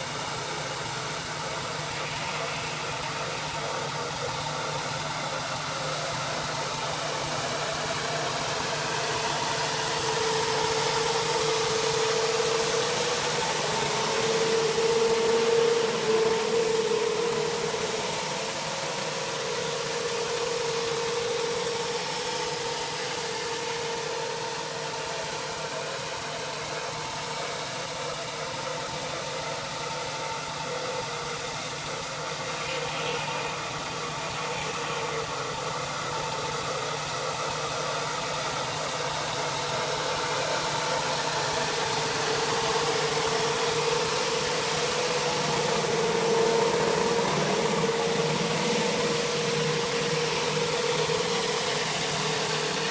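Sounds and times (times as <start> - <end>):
high-pressure water spray hissing: 0.0 - 27.7, 30.7 - 52.9
pressure washer engine hum: 0.0 - 52.9.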